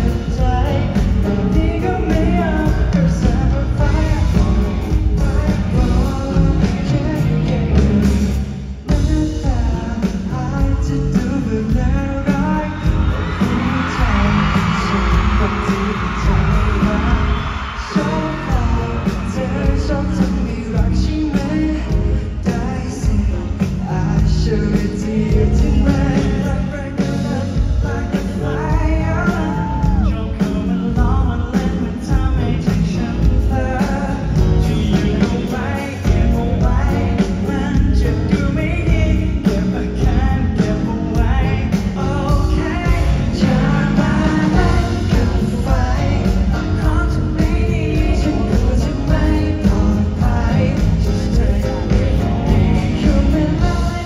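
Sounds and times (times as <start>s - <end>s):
live pop-rock band: 0.0s - 54.0s
man singing into microphone: 0.0s - 54.0s.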